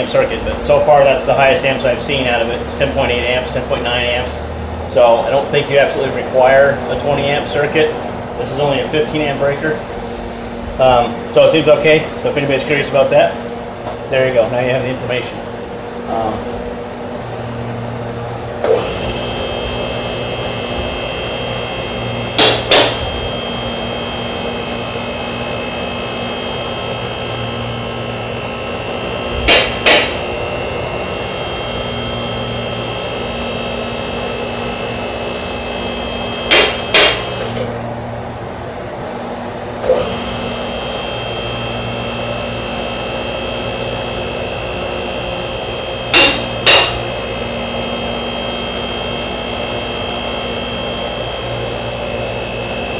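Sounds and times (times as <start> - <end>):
hydraulic power unit running: 0.0 - 52.9.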